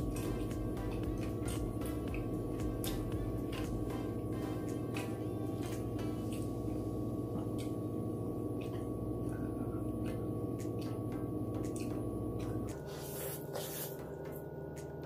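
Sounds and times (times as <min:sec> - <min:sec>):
soft ringing background music: 0:00.0 - 0:15.0.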